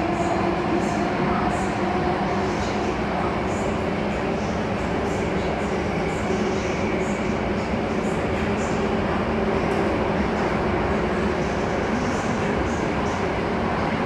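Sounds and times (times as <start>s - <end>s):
metro train running through tunnel: 0.0s - 14.0s.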